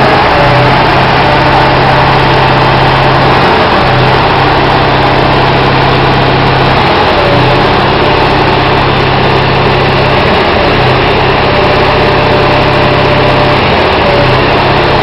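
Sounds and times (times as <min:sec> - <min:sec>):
concrete pump engine hum: 0:00.0 - 0:15.0.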